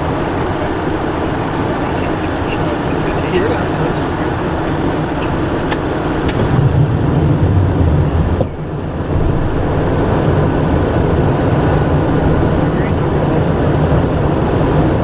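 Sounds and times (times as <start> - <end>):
air rushing past aircraft: 0.0 - 15.0
jet engines droning: 0.0 - 15.0.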